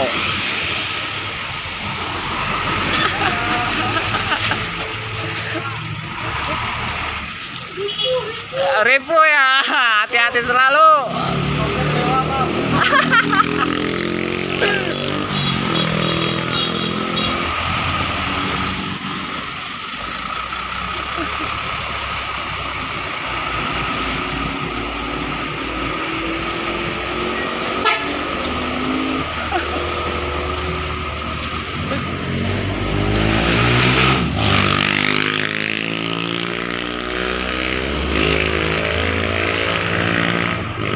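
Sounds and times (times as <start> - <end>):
truck diesel engine passing: 0.0 - 8.6, 10.4 - 40.9
road noise: 0.0 - 40.9.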